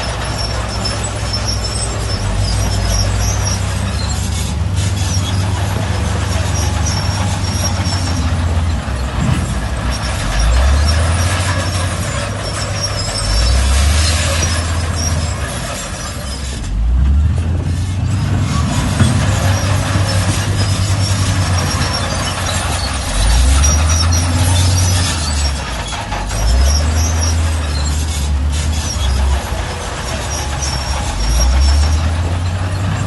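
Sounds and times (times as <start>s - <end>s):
bulldozer diesel engine under load: 0.0s - 33.0s
high metallic squeaks from tracks: 0.0s - 33.0s.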